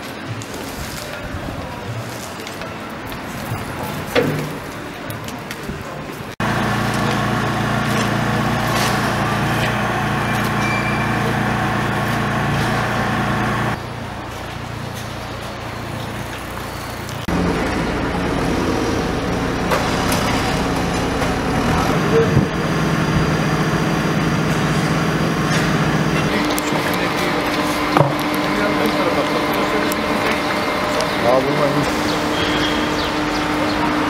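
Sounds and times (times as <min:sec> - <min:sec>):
machinery engine humming: 0:06.4 - 0:34.0.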